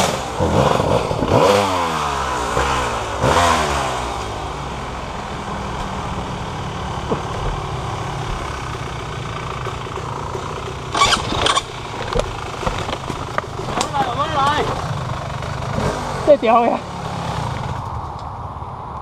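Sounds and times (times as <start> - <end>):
engine revving: 0.0 - 17.9
vehicle engine idling: 1.0 - 19.0.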